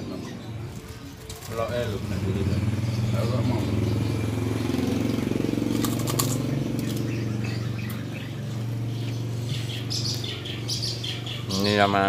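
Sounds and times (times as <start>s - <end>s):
motorcycle engine idling: 1.4s - 11.7s.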